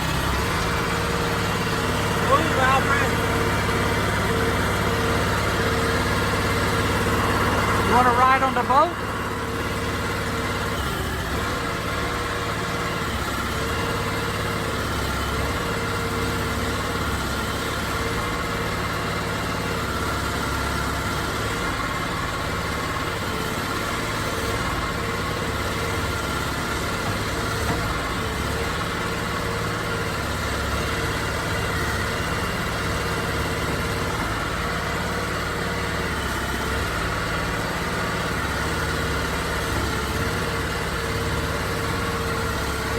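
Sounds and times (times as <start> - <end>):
small boat engine running: 0.0 - 42.9.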